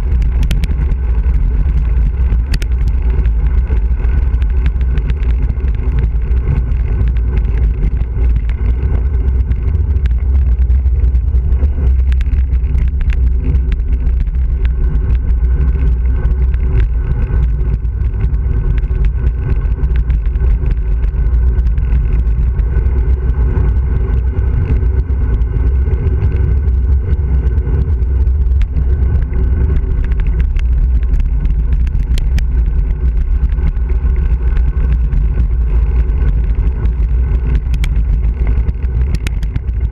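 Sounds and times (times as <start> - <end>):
small clicks and rattles: 0.0 - 39.9
wind buffeting microphone: 0.0 - 39.9.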